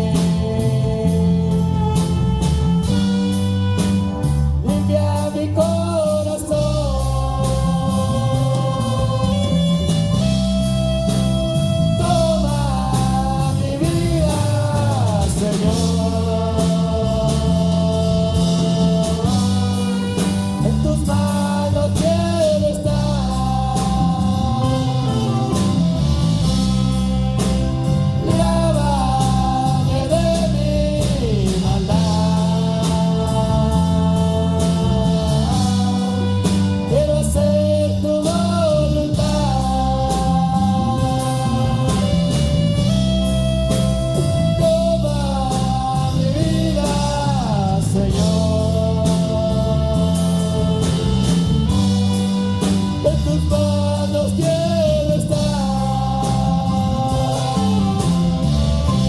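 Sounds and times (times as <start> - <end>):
drums keeping even beat: 0.0 - 59.0
steady bass notes: 0.0 - 59.0
worship band music: 0.0 - 59.0.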